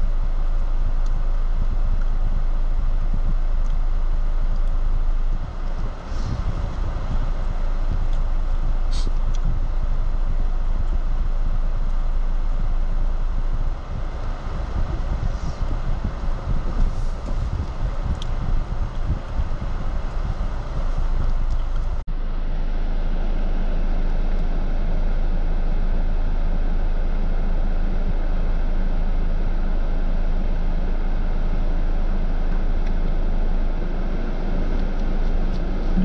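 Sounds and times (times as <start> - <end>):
vehicle engine running: 0.0 - 36.0
wind noise on microphone: 0.0 - 36.0.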